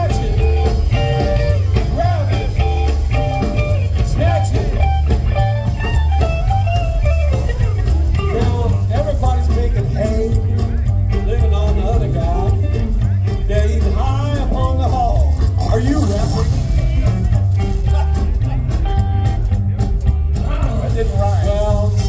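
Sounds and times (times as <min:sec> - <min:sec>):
rockabilly band playing live: 0:00.0 - 0:22.0.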